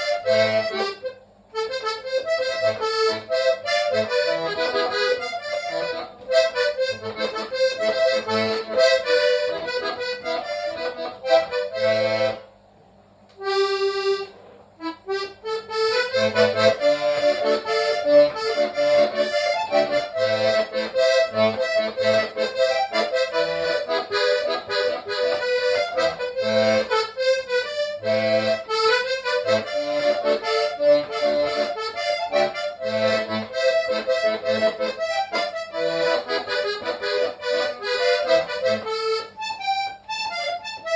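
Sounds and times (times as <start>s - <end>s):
button accordion melody: 0.0s - 12.6s, 13.3s - 40.9s.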